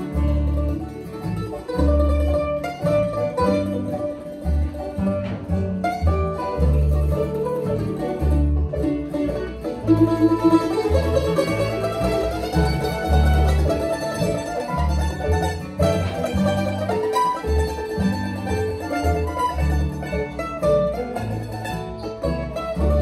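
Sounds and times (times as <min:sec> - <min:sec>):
acoustic guitar: 0:00.0 - 0:23.0
banjo: 0:00.0 - 0:23.0
fiddle: 0:00.0 - 0:23.0
mandolin: 0:00.0 - 0:23.0
upright bass walking line: 0:00.0 - 0:23.0.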